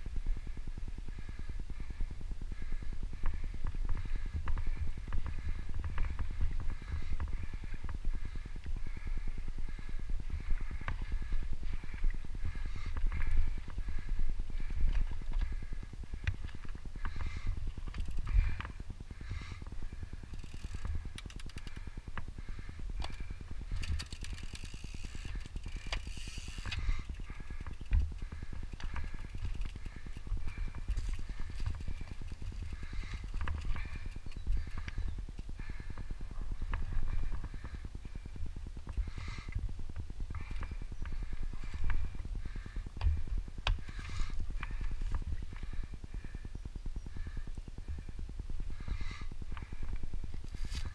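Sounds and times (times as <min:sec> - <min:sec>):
wind rumbling on microphone: 0:00.0 - 0:50.9
bike rattling over bumps: 0:00.1 - 0:50.9.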